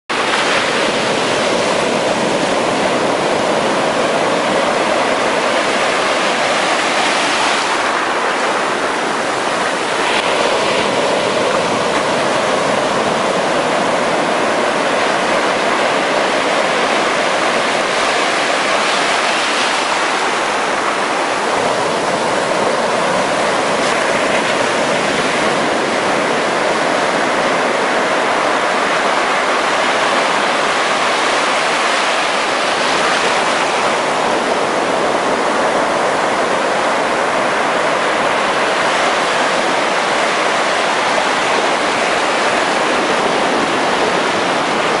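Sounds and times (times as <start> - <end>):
ocean surf breaking: 0.1 - 45.0.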